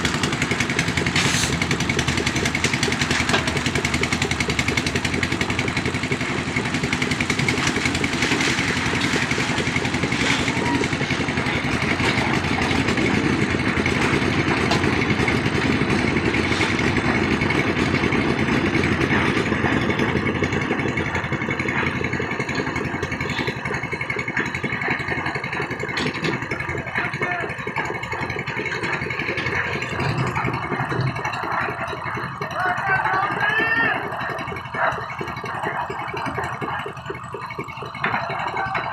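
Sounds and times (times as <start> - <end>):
concrete mixer engine chugging: 0.0 - 38.9.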